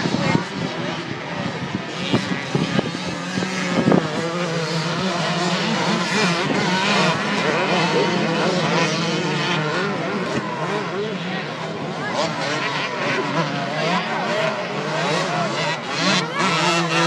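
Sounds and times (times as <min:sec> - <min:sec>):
motocross engines revving: 0:00.0 - 0:17.0.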